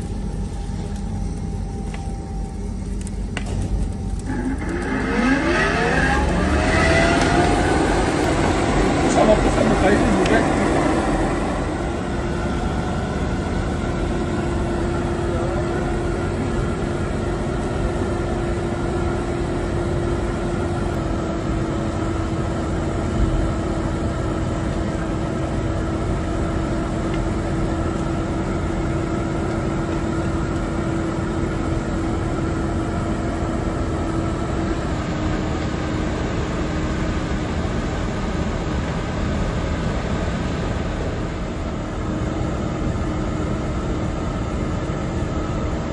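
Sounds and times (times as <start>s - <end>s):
industrial machinery droning: 0.0s - 45.9s.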